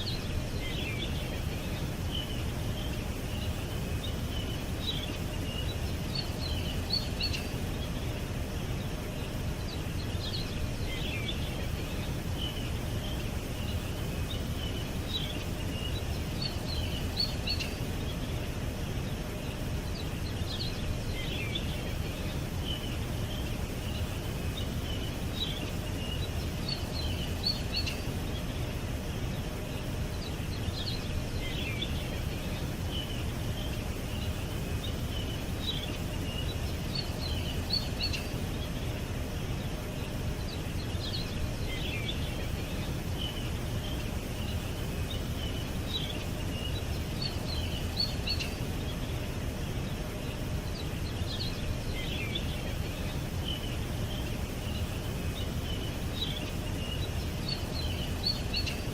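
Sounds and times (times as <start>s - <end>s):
songbirds chirping and twittering: 0.0s - 58.9s.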